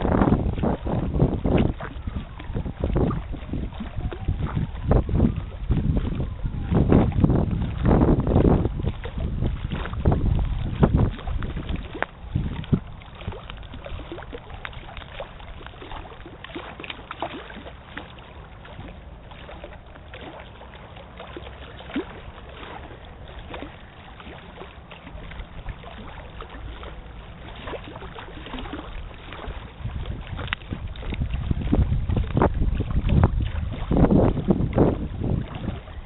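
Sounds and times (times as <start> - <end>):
small waves lapping and splashing: 0.0 - 36.0
wind rumble on microphone: 0.0 - 36.0.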